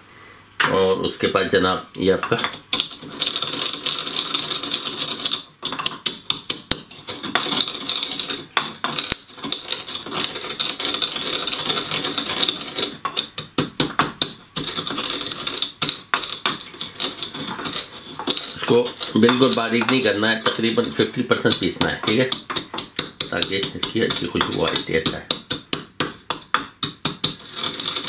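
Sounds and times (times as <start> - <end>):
pestle pounding seeds in mortar: 2.0 - 28.0.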